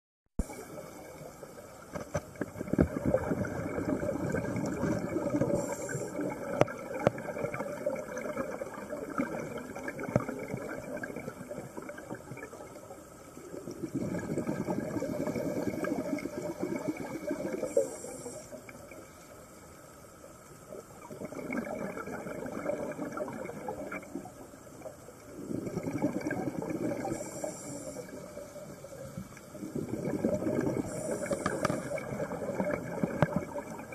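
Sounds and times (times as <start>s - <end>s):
water bubbling underwater: 0.4s - 19.1s, 20.6s - 33.9s.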